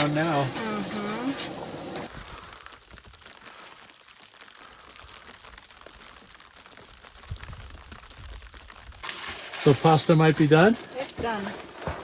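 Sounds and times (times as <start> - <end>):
snow ticking on canopy: 0.0 - 12.0.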